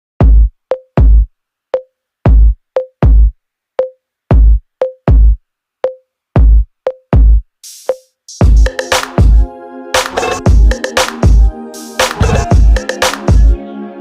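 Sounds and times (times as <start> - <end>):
drum-machine kick drums: 0.2 - 13.6.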